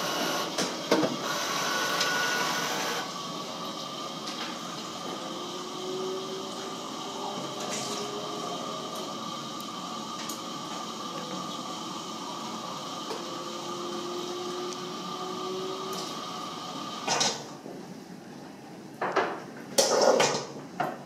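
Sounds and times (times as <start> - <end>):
coffee machine whine and hiss: 0.0 - 21.0.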